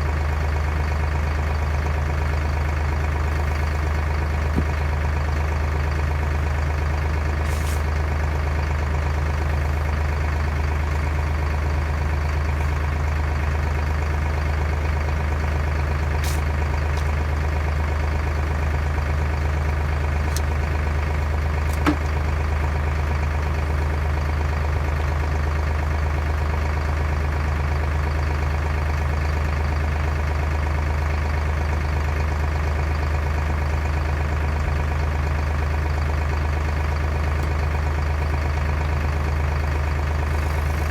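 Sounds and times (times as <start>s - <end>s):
heavy engine idling: 0.0s - 40.9s.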